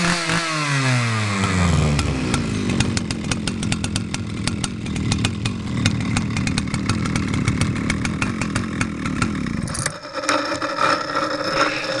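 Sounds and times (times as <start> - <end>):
chainsaw idling: 0.0 - 12.0.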